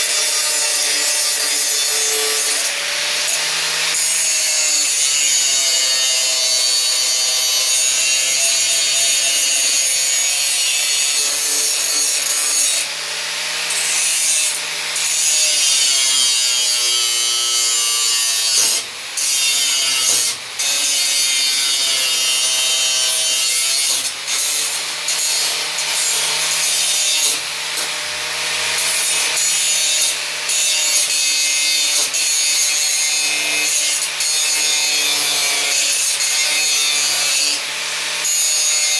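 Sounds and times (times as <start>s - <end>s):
angle grinder grinding metal: 0.0s - 38.9s.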